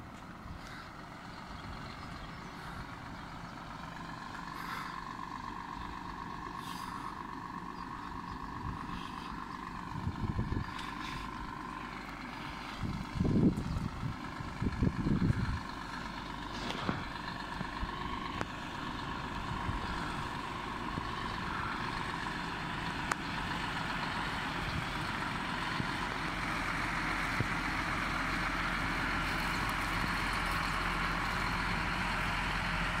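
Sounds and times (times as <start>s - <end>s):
truck diesel engine driving past: 0.0s - 33.0s.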